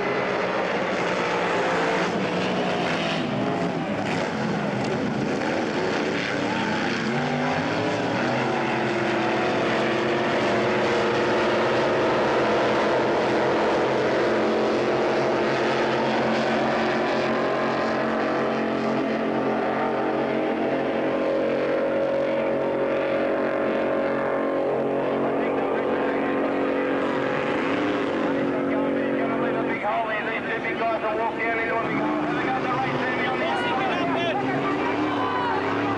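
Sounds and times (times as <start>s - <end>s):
powerboat engines running hard: 0.0s - 35.9s.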